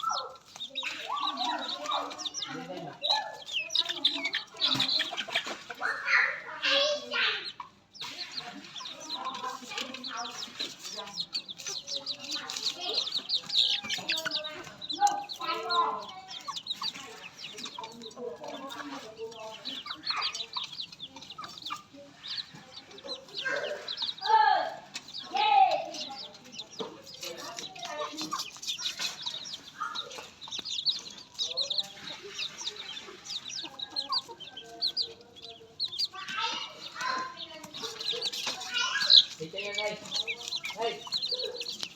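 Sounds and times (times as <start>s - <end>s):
poultry chirping and clucking: 0.0s - 41.9s.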